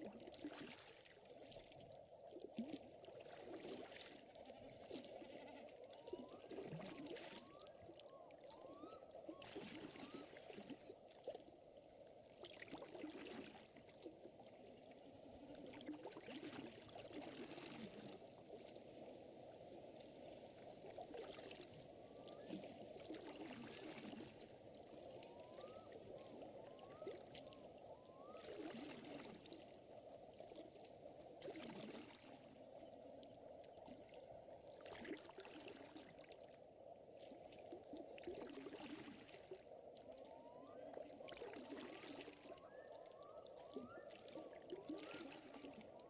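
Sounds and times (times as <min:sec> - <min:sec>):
water lapping and trickling: 0:00.0 - 0:46.0.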